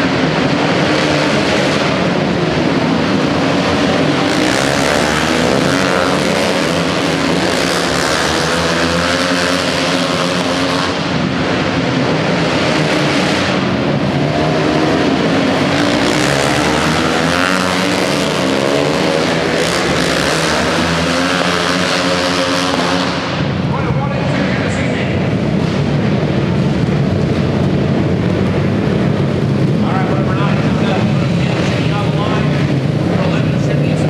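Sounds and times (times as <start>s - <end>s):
racing motorcycle engines: 0.0s - 34.0s.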